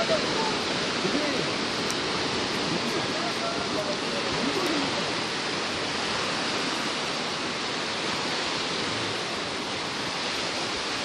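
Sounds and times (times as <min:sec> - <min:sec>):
sea surf rushing on shore: 0:00.0 - 0:11.0.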